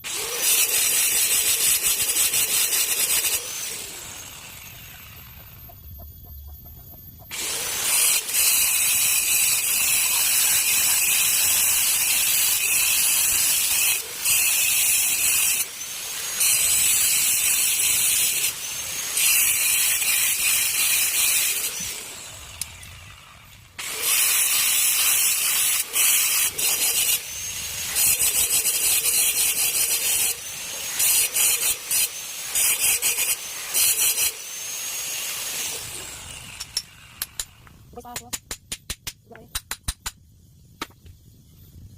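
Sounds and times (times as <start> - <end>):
power tool high-pitched whine: 0.0 - 6.1, 7.2 - 37.8.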